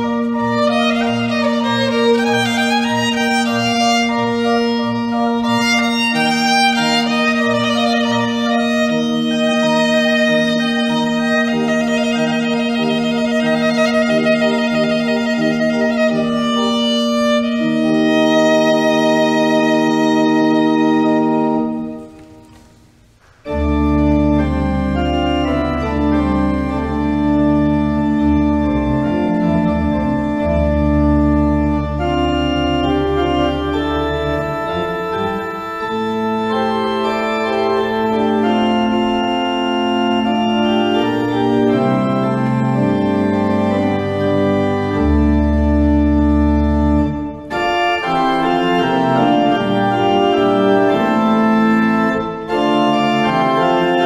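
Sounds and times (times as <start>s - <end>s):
church pipe organ playing: 0.0s - 54.0s.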